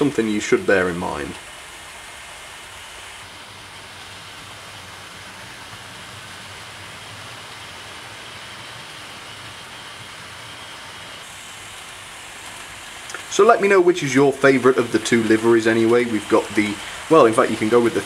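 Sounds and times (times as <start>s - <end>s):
model trains running on track: 0.0s - 18.0s.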